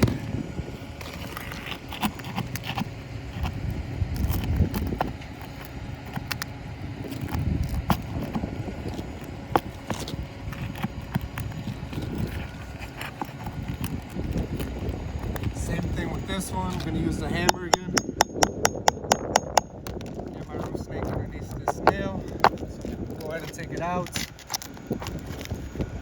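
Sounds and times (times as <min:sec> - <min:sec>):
hand tools prying roofing nails: 0:04.2 - 0:25.4.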